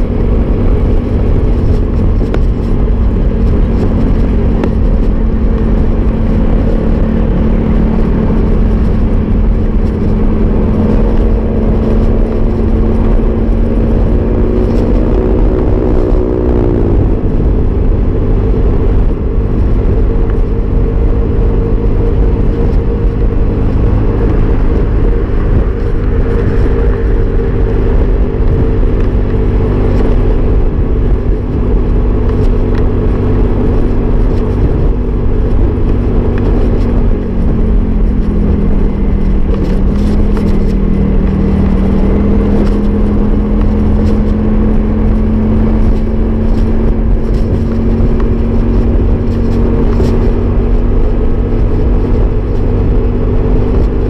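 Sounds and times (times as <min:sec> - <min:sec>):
motorbike engine cruising: 0:00.0 - 0:54.0
wind rumble on microphone: 0:00.0 - 0:54.0.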